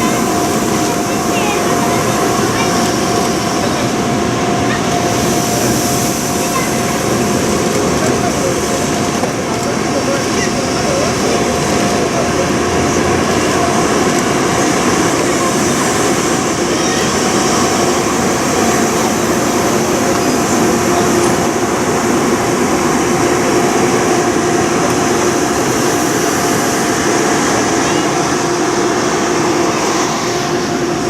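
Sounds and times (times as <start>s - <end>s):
rail noise: 0.0s - 31.0s
train passing loud mechanical hum: 0.0s - 31.0s.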